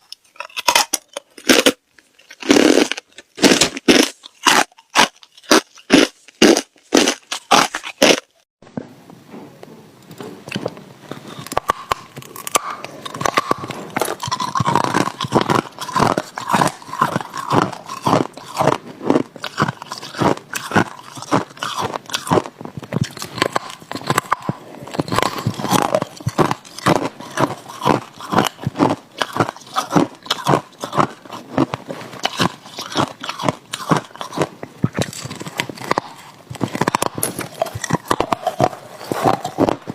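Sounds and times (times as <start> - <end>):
ice crunching being chewed: 0.0 - 8.4, 11.1 - 39.9.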